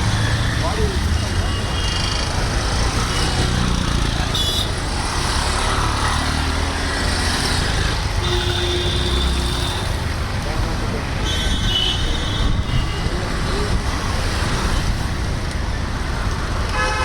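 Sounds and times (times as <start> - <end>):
dense city traffic rumble: 0.0 - 17.0.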